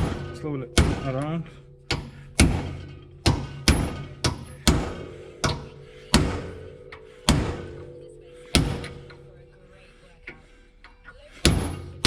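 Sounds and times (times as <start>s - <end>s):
hammer striking steel chisel: 0.0s - 9.4s, 11.4s - 12.0s.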